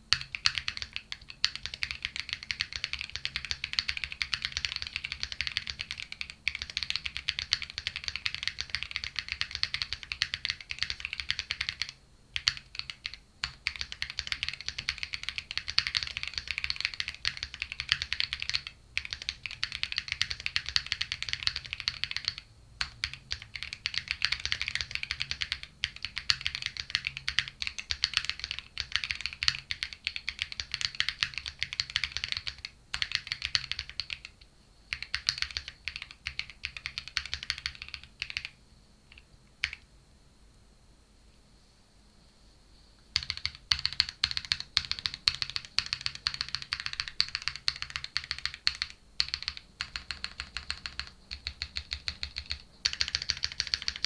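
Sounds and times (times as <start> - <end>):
mechanical keyboard typing: 0.1 - 39.8, 43.1 - 54.0.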